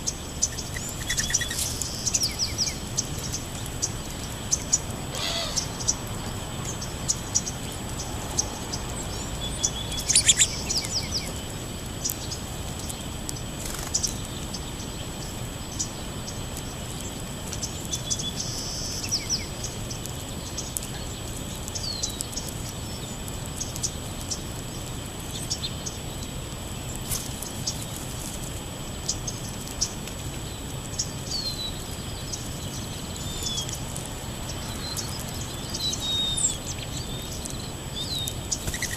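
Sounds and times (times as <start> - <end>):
high insect-like drone: 0.0 - 38.9
outdoor background noise: 0.0 - 38.9
songbirds chirping: 0.0 - 38.9.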